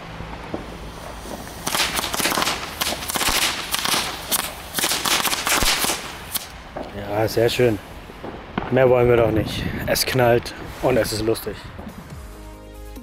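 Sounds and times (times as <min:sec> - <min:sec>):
firecrackers going off: 0:00.0 - 0:12.4.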